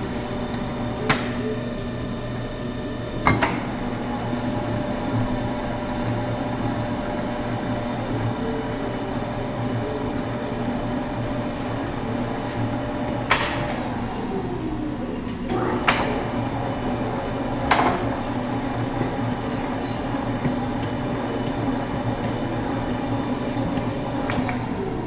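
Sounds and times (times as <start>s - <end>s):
floor mixer motor hum: 0.0s - 25.0s.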